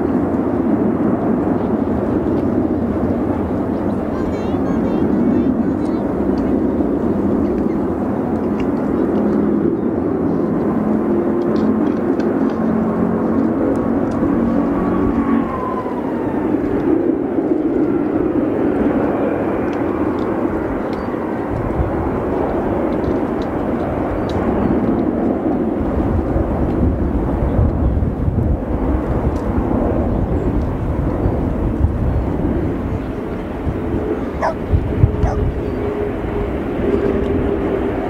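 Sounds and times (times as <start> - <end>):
jet airliner flying overhead: 0.0 - 38.0.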